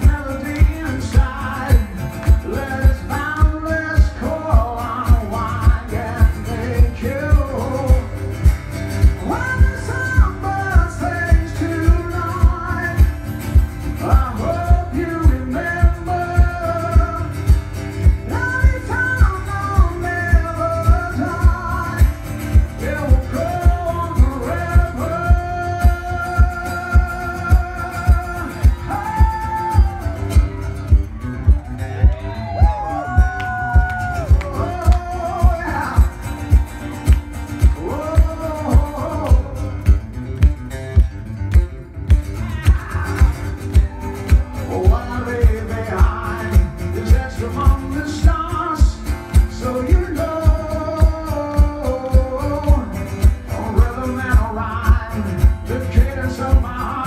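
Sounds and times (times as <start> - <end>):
man singing into microphone: 0.0 - 8.3, 9.0 - 30.7, 32.2 - 36.6, 37.6 - 40.0, 42.4 - 57.0
acoustic guitar strumming: 0.0 - 57.0.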